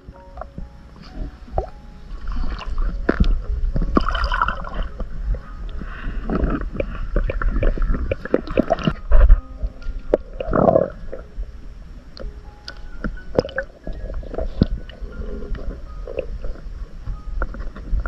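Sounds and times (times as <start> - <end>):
steady low rumble: 0.0 - 18.0
water gurgling and bubbling underwater: 0.0 - 18.0.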